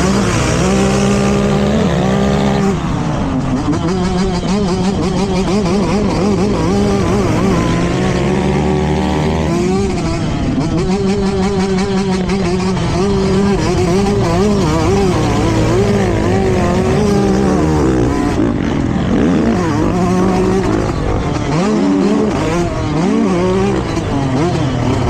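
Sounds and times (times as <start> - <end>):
motocross bike engines racing: 0.0 - 25.0.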